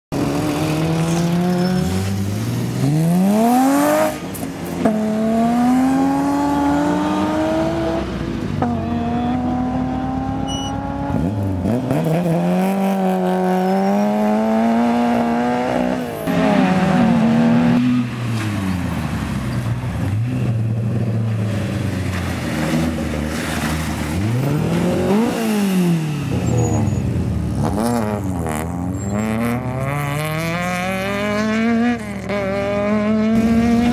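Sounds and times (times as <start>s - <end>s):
rally car engines accelerating: 0.2s - 33.9s.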